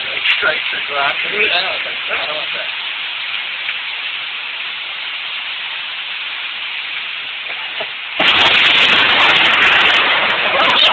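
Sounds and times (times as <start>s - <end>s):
loud crackling hiss: 0.0s - 10.9s
steady rain: 0.0s - 10.9s.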